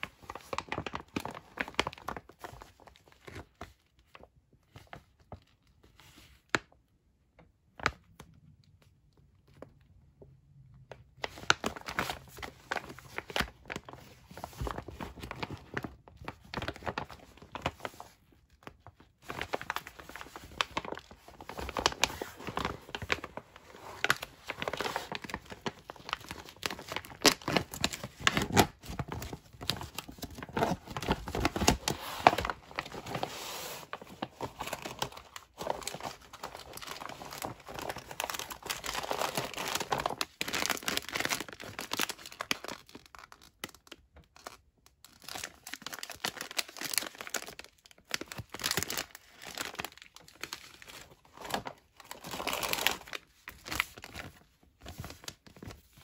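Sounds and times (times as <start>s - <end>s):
plastic bag crinkling and tearing: 0.0s - 4.2s, 11.2s - 56.0s.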